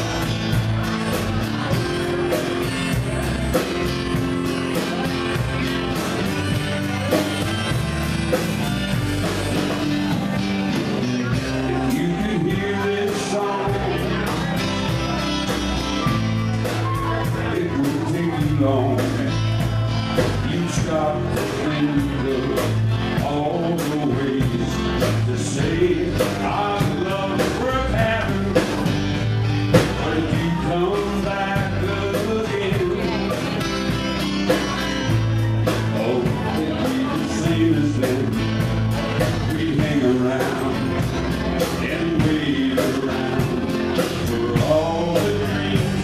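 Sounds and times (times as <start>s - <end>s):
man singing: 0.0s - 46.0s
strummed acoustic guitars: 0.0s - 46.0s.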